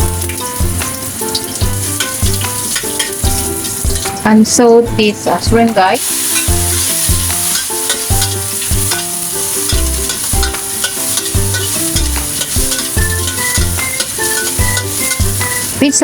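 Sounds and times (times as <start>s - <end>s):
stirring clicks: 0.0s - 4.3s, 6.0s - 15.9s
shrimp sizzling in a pan: 0.0s - 5.1s, 5.8s - 16.0s
background music: 0.0s - 16.0s.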